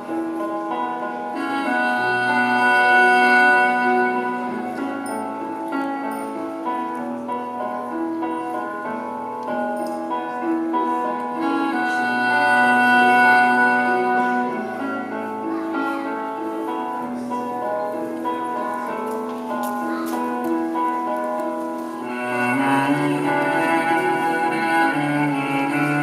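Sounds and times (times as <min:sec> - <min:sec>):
slow cello-led instrumental music: 0:00.0 - 0:26.0.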